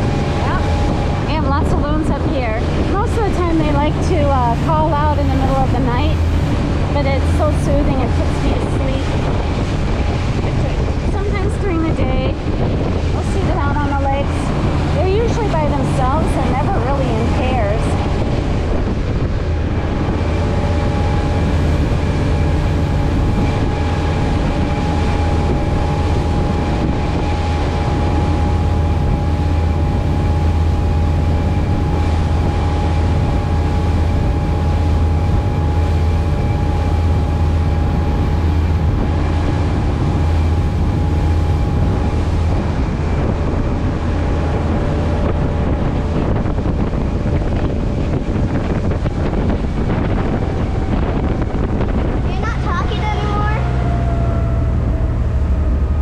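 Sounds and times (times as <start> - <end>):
motorboat engine running: 0.0 - 56.0
water rushing along hull: 0.0 - 56.0
wind buffeting microphone: 0.0 - 56.0.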